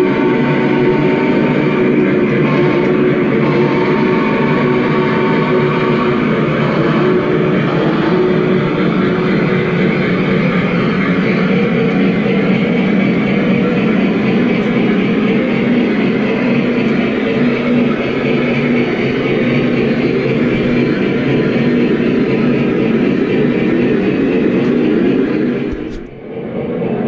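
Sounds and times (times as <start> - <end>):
model train rumbling on track: 0.0 - 27.0.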